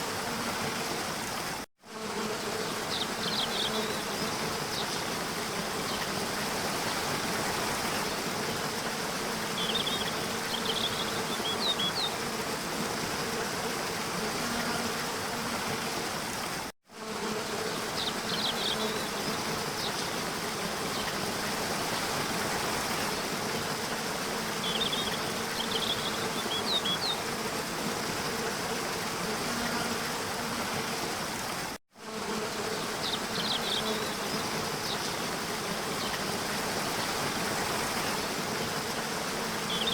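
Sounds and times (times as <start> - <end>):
high insect buzz: 0.0 - 16.1, 16.9 - 39.9.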